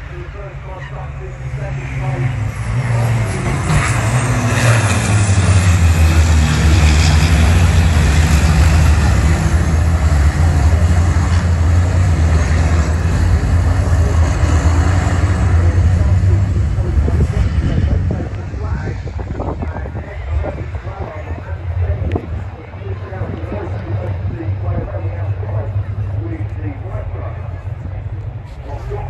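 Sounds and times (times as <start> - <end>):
diesel truck engines droning: 0.0 - 29.0.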